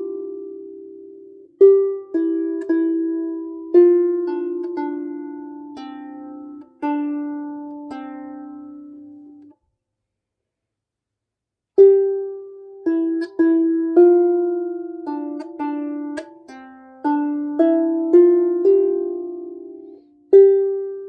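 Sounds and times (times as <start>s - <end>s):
lap harp notes plucked: 0.0s - 9.5s, 11.8s - 21.0s.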